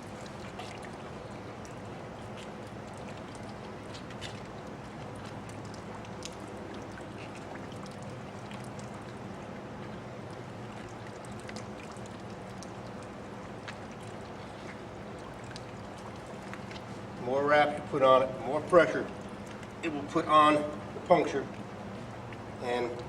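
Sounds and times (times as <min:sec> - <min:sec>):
small crackles and drips: 0:00.0 - 0:23.0
steady low hum: 0:00.0 - 0:23.0.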